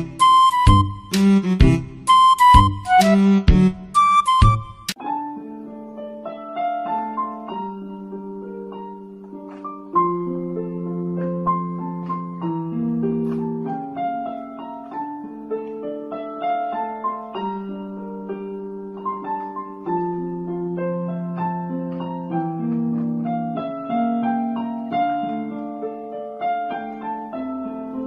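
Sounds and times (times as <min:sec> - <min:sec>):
electronic keyboard piano melody: 0:00.0 - 0:28.0.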